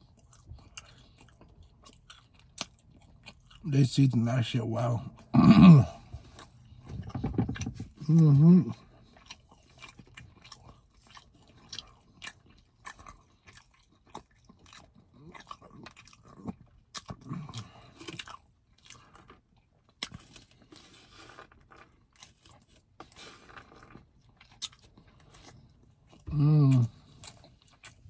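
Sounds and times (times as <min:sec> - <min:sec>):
person chewing: 0:00.0 - 0:04.0, 0:05.0 - 0:28.0.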